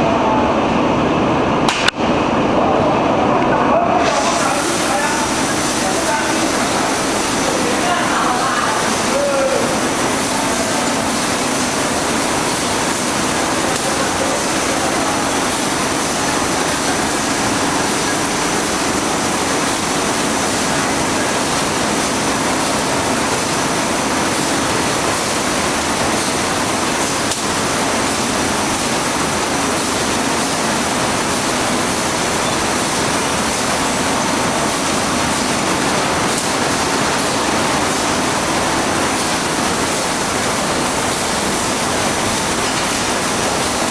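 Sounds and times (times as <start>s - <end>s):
faint machine hum: 0.0s - 43.9s
coating machine rushing noise: 2.2s - 43.9s.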